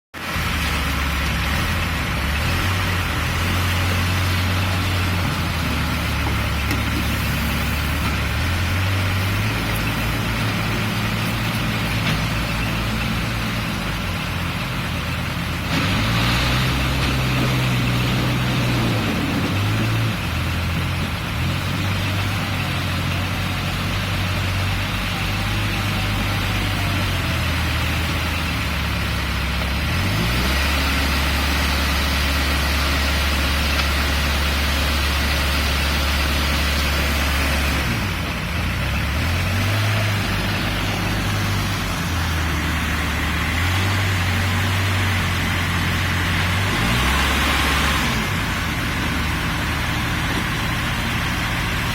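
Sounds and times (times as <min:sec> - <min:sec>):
backhoe diesel engine running: 0:00.1 - 0:51.9.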